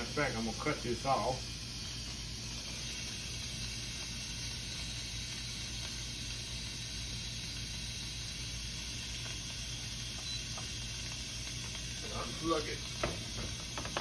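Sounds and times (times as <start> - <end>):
pressure cooker steam hissing: 0.0 - 14.0.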